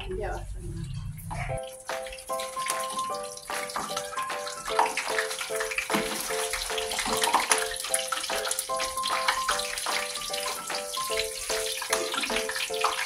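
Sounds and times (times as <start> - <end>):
fish sizzling in hot oil: 1.6 - 13.0.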